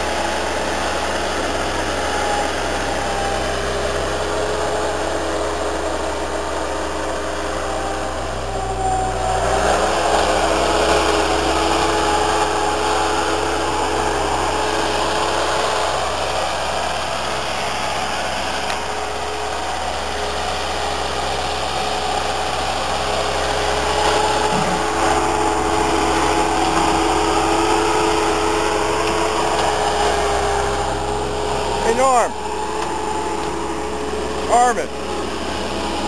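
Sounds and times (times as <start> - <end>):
skid steer diesel engine: 0.0 - 36.0.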